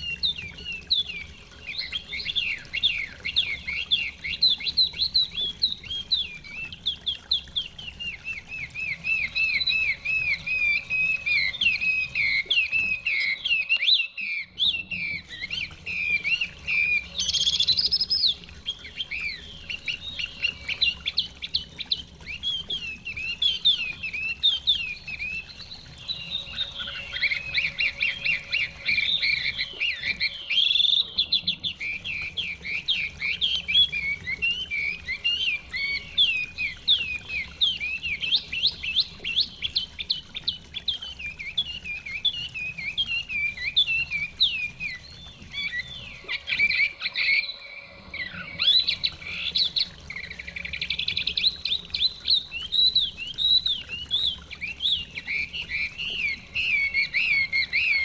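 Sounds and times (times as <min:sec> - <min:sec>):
songbird singing whistled phrases: 0:00.0 - 0:58.0.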